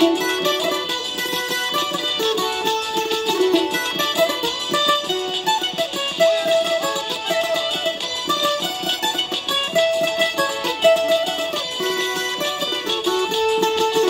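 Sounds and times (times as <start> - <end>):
plucked metal strings melody: 0.0 - 14.0
recorded song: 0.0 - 14.0.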